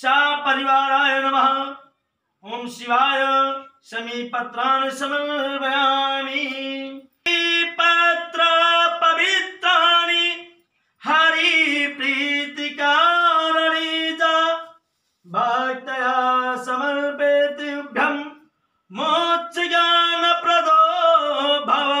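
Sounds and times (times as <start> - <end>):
man chanting a hymn: 0.0 - 22.0.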